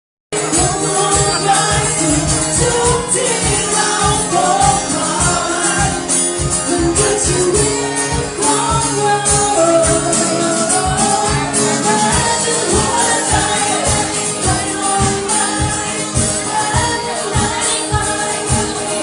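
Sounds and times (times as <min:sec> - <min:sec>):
live band playing pop song: 0:00.3 - 0:19.0
person singing: 0:00.4 - 0:19.0.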